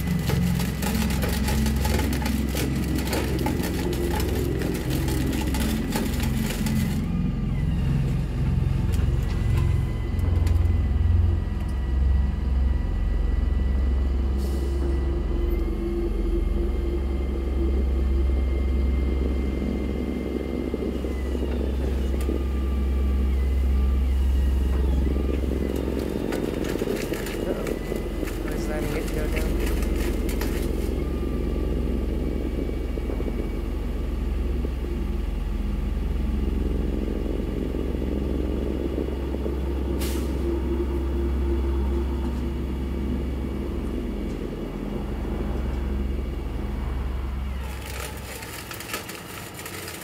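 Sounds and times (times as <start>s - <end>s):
faint steady whine: 0.0s - 50.0s
heavy vehicle engine rumbling: 0.0s - 50.0s.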